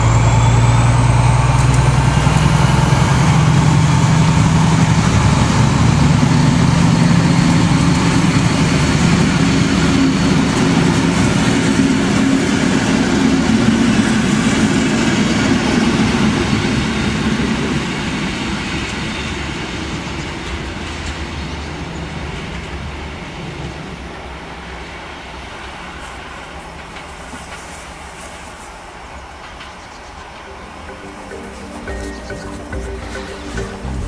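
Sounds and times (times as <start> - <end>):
locomotive engine rumble: 0.0 - 22.7, 26.2 - 34.0
train wheels on rails: 0.0 - 34.0.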